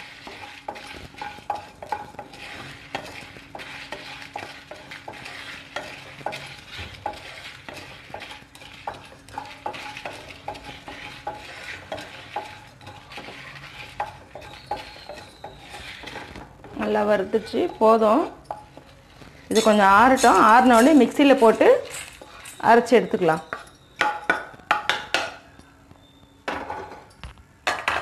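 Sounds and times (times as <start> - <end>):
faint sizzle: 0.0 - 24.7
wooden spatula scraping pan: 0.0 - 25.4.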